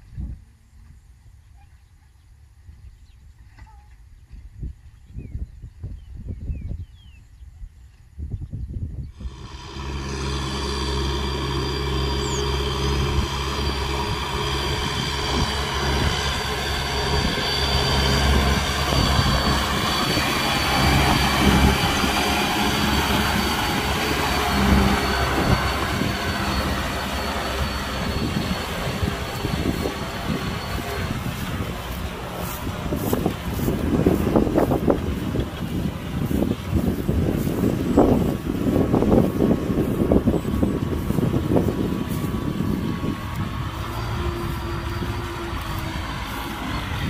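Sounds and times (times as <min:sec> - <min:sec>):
tractor diesel engine running: 0:09.2 - 0:47.0.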